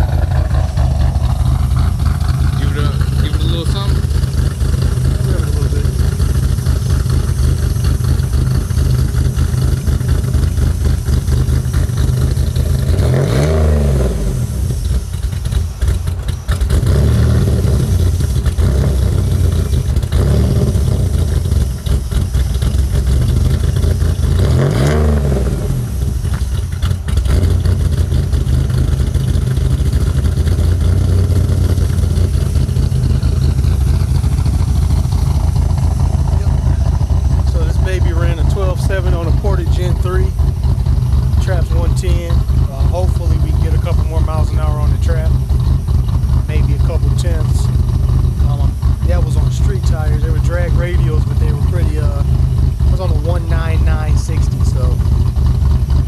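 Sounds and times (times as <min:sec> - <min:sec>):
car engine idling with a lope: 0:00.0 - 0:56.0
car engine revving: 0:00.0 - 0:56.0.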